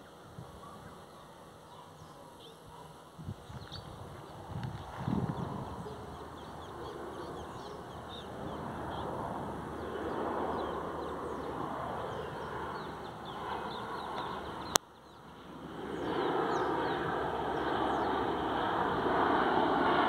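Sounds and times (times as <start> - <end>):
distant jet engine rush: 0.0 - 20.0
small birds chirping: 0.0 - 20.0.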